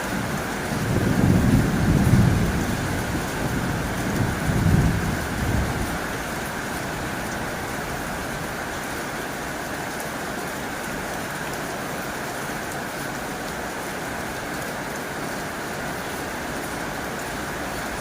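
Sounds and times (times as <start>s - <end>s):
heavy rain on a tin roof: 0.0s - 18.0s.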